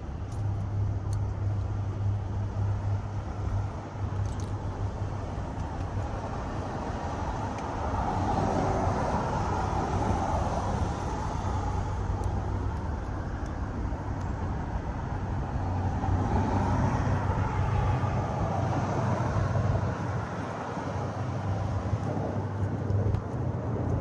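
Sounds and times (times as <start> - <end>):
vehicle rumble: 0.0 - 24.0.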